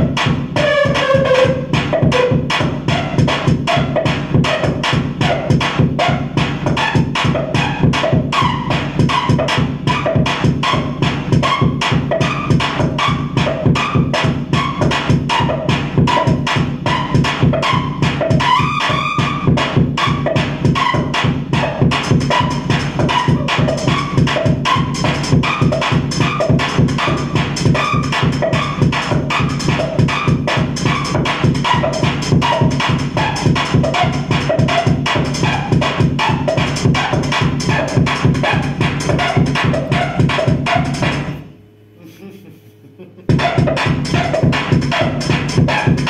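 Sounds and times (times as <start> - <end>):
loud electronic music: 0.0 - 41.4, 43.3 - 46.0.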